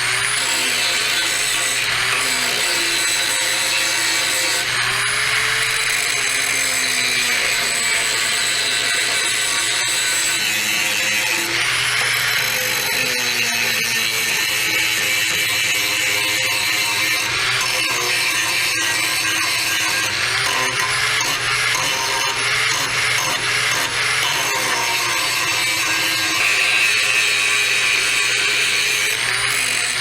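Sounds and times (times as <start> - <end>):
angle grinder grinding metal: 0.0 - 30.0.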